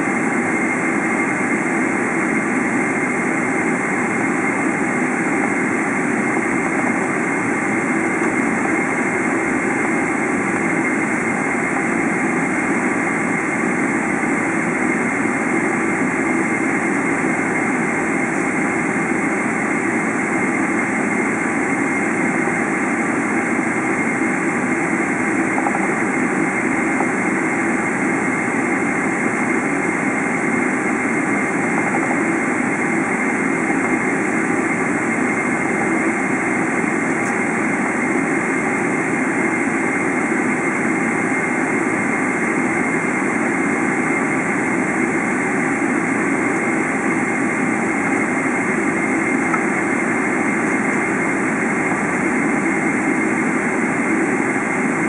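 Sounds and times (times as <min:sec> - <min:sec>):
high engine whine: 0:00.0 - 0:55.0
jet engine rumble and hiss: 0:00.0 - 0:55.0.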